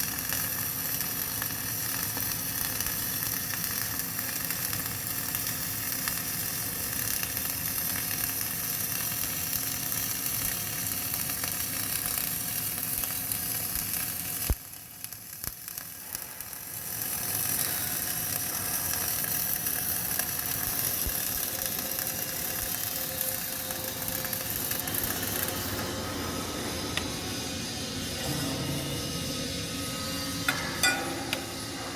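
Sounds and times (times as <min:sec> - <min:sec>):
welding arc crackling and sizzling: 0:00.0 - 0:31.9.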